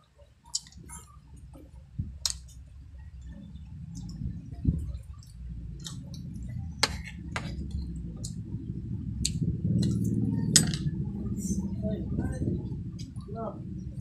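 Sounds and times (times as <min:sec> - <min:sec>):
low rumble: 0:00.4 - 0:14.0.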